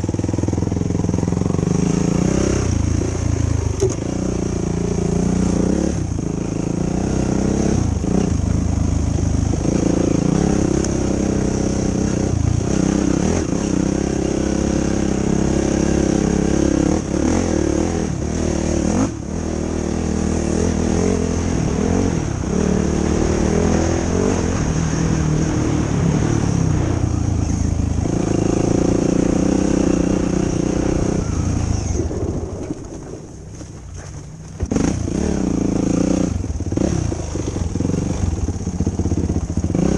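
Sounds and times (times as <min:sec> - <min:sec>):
quad engine revving: 0:00.0 - 0:33.6, 0:34.5 - 0:39.9.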